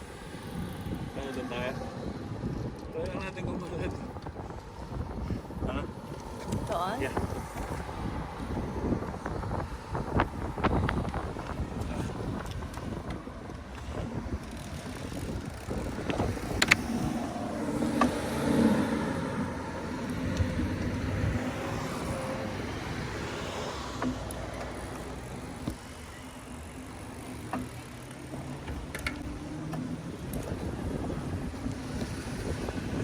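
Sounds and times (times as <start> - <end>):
cars passing on road: 0.0 - 33.0.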